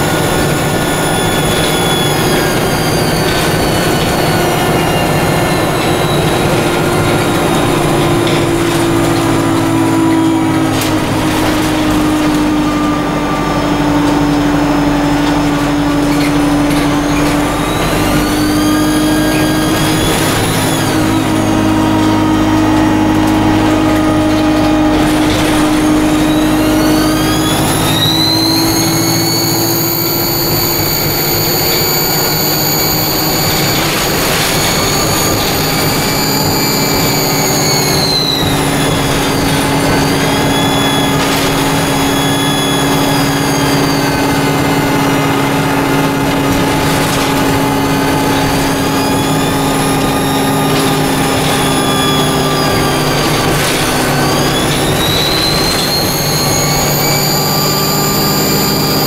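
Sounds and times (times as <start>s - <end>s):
bus diesel engine: 0.0s - 59.0s
high-pitched turbo whine: 0.0s - 59.0s.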